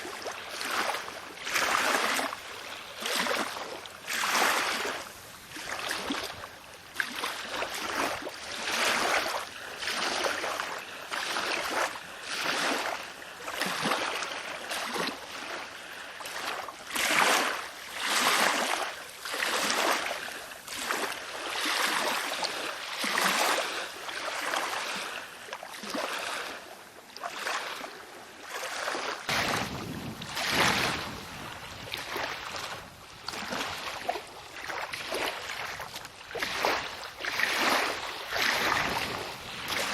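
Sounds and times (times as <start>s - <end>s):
water splashing around kayak: 0.0s - 39.9s.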